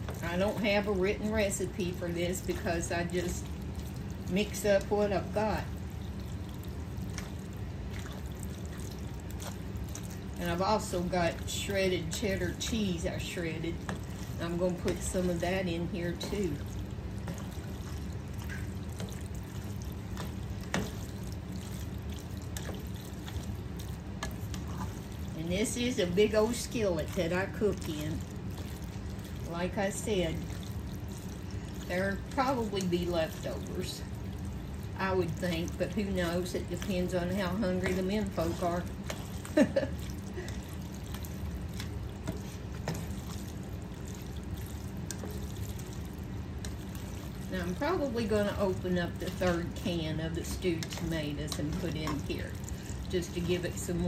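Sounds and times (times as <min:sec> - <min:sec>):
steady low hum: 0:00.0 - 0:54.0
wooden spatula stirring wet food: 0:00.0 - 0:54.0.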